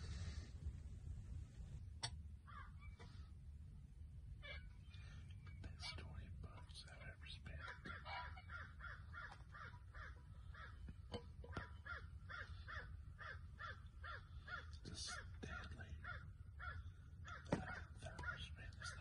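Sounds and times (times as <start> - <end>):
faint bird calls: 2.4 - 3.3, 4.4 - 19.0.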